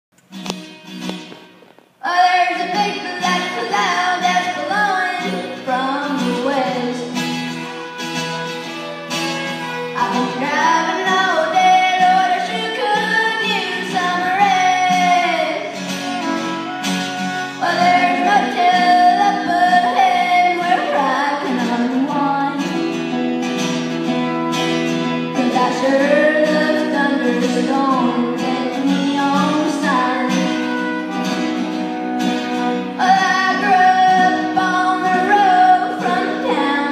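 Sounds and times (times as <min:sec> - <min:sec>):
acoustic guitars strumming: 0:00.2 - 0:36.9
fiddle playing: 0:01.1 - 0:36.9.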